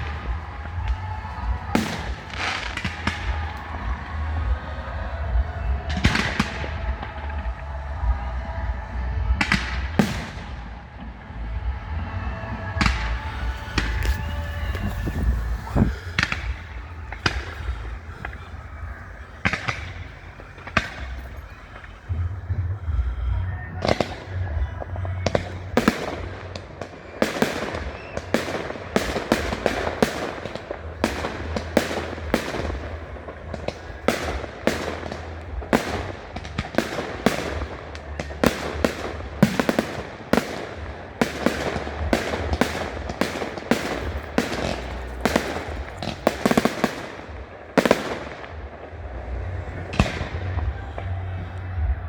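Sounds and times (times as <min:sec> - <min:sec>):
fireworks bursts and bangs: 0:00.0 - 0:52.0.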